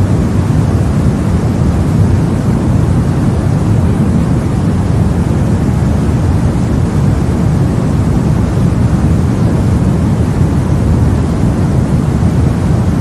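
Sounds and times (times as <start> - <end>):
deep white noise: 0.0 - 13.0.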